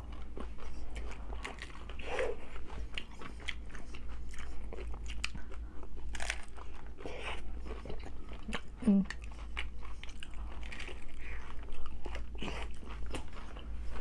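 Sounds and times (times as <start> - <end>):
crunchy tacos chewing: 0.0 - 14.0.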